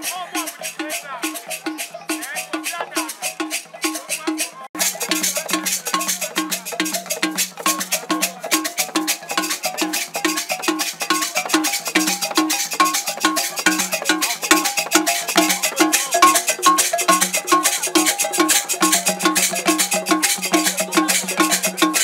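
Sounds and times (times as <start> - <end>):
hand drums playing fast rhythm: 0.0 - 22.0
high-pitched drum note: 0.8 - 22.0.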